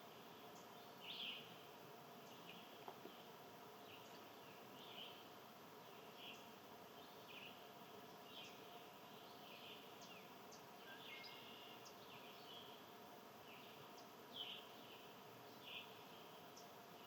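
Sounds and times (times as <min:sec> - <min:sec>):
low steady background hum: 0:00.0 - 0:17.0
small birds chirping: 0:00.0 - 0:17.0.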